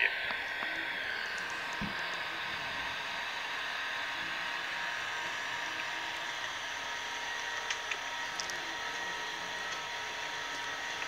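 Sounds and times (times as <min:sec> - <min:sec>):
cockpit hiss and hum: 0:00.0 - 0:11.0.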